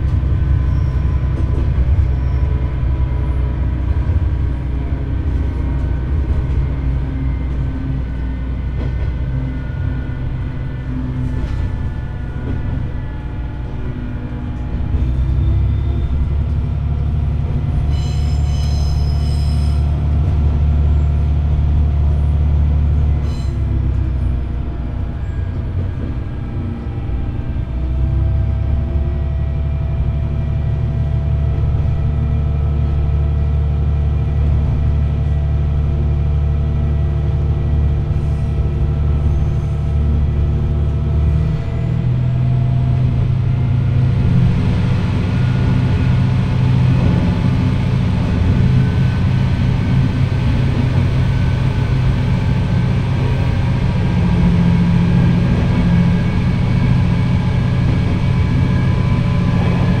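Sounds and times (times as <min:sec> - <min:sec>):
diesel railcar engine running: 0:00.0 - 1:00.0.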